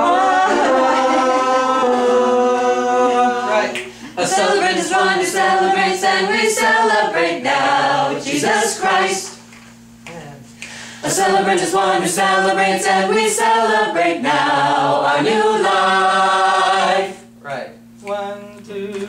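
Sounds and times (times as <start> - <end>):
mixed choir singing a cappella: 0.0 - 9.5, 11.0 - 17.3.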